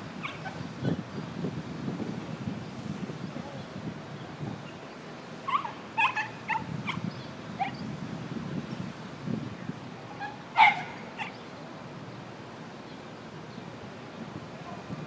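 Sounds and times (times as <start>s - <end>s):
wind rumble on microphone: 0.0s - 11.4s, 14.1s - 15.0s.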